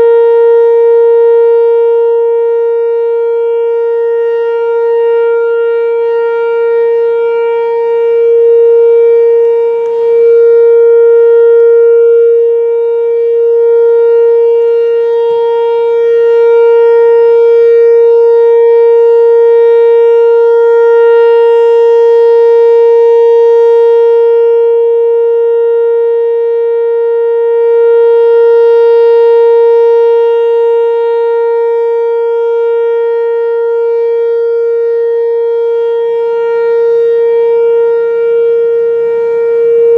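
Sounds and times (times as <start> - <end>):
loud steady tone: 0.0 - 39.9.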